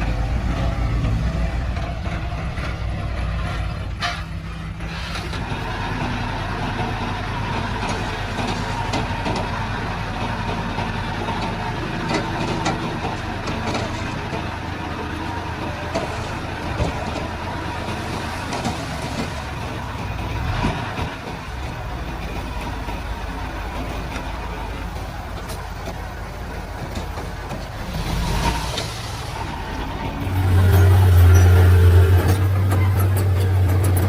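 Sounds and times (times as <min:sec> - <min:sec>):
bulldozer diesel engine running: 0:00.0 - 0:34.0
metallic clanks from tracks: 0:00.0 - 0:34.0.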